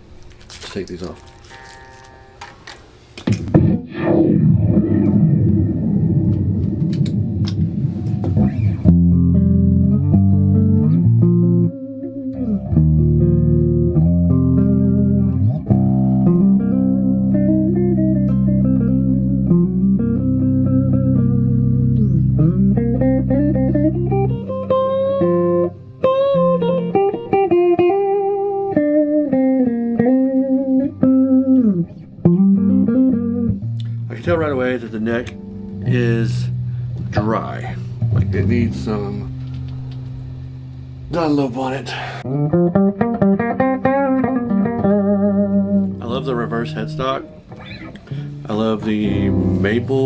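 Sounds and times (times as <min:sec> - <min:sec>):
amplifier noise: 0:00.0 - 0:50.0
electric guitar chords: 0:01.2 - 0:50.0
electric guitar lead line: 0:01.2 - 0:50.0.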